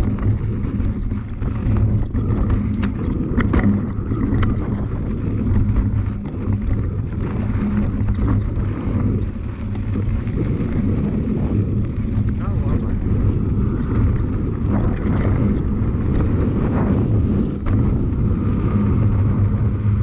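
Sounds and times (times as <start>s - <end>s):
bike knocks and rattles: 0.0s - 19.6s
bike tyre noise: 0.0s - 20.0s
wind on microphone: 0.0s - 20.0s.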